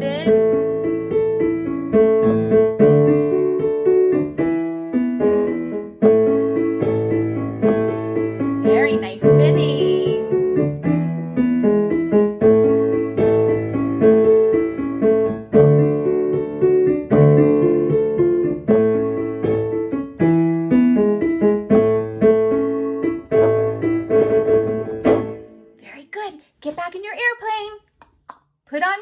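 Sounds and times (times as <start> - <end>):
lively piano tune: 0.0 - 27.4.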